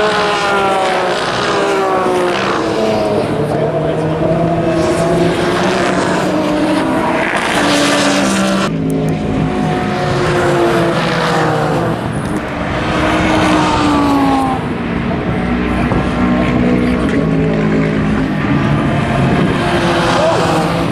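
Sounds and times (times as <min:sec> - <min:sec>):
race car engines accelerating: 0:00.0 - 0:20.9.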